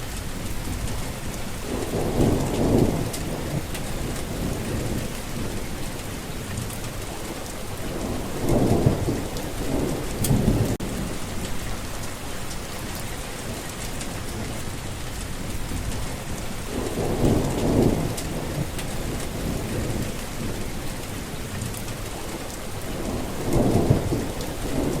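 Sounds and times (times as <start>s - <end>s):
rolling thunder: 0.0s - 25.0s
steady rain falling: 0.0s - 25.0s.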